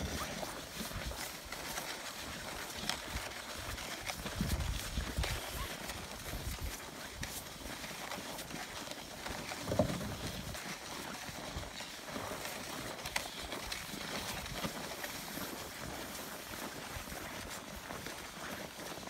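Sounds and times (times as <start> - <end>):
footsteps crunching through snow: 0.0 - 19.0
wooden sled sliding over snow: 0.0 - 19.0.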